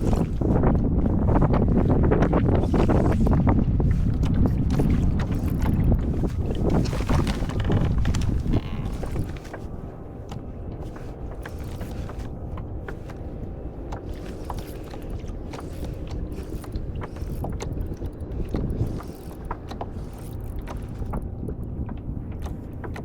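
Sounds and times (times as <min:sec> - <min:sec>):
clicks and knocks on kayak: 0:00.0 - 0:23.0
steady low rumble: 0:00.0 - 0:23.0.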